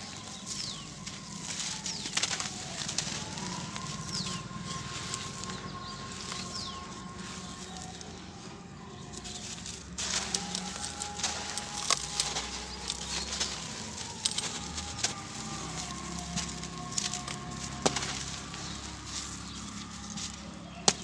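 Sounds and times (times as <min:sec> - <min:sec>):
hands crunching dry cement lumps: 0:00.0 - 0:21.0.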